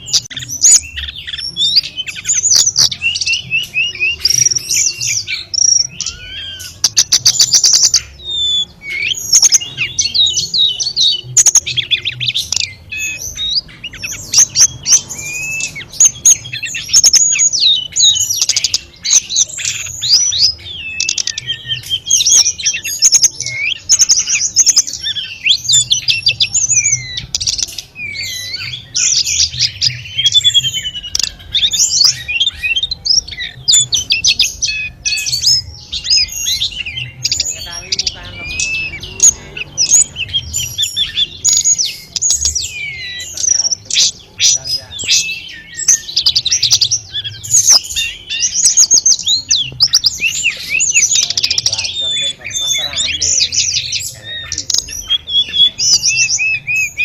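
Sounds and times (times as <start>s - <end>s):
bird singing chattering song: 0.0s - 57.0s.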